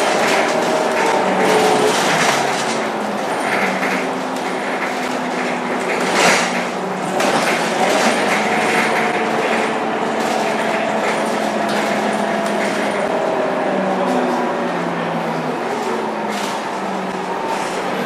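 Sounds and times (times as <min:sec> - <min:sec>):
bus engine droning: 0:00.0 - 0:18.0
road noise: 0:00.0 - 0:18.0.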